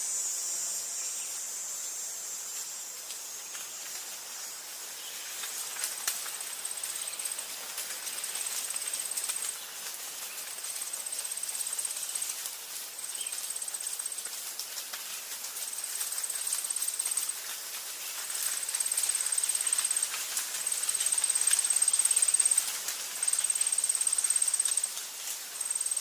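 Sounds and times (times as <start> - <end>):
steady hiss: 0.0 - 26.0
insect trilling: 5.1 - 26.0.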